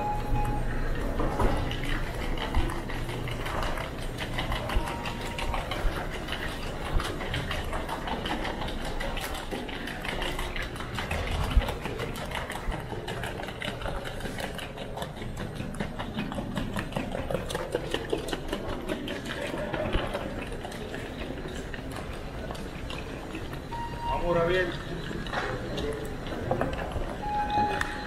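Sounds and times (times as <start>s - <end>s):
hubbub of airport hall: 0.0s - 28.0s.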